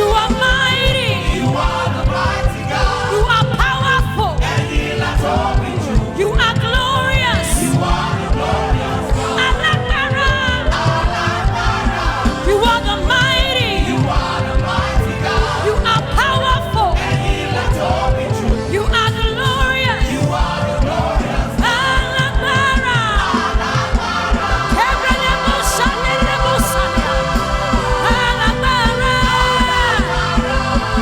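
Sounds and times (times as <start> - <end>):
gospel music with driving beat: 0.0 - 31.0
keyboard: 0.0 - 31.0
voices singing: 0.0 - 31.0.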